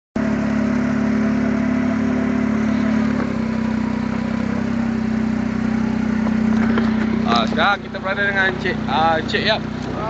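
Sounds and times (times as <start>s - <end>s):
buggy engine running: 0.2s - 10.0s.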